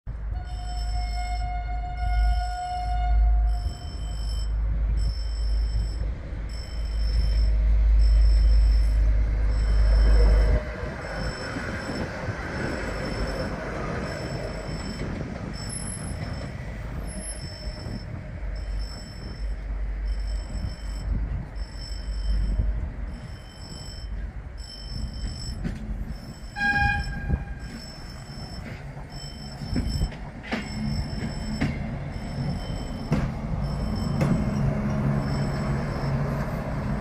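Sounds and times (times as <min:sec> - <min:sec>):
level-crossing warning tone: 0:00.3 - 0:37.0.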